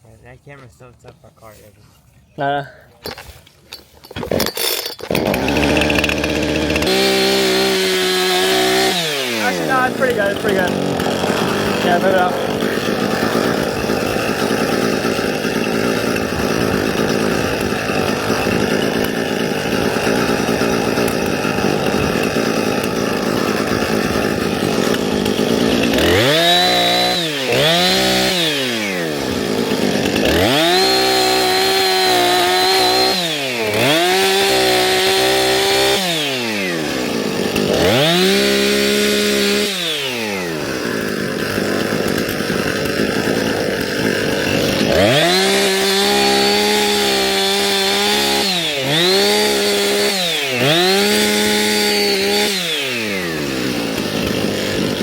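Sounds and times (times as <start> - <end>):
two-stroke power tool engine revving: 4.1 - 55.0.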